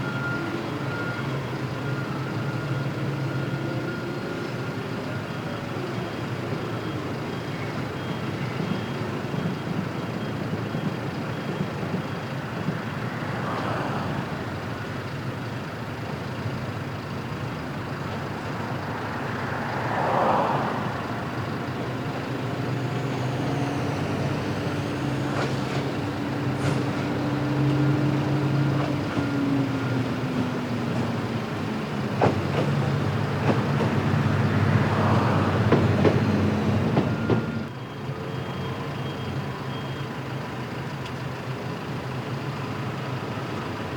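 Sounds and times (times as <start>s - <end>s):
electric freight train hum: 0.0s - 43.9s
passing road traffic: 0.0s - 43.9s.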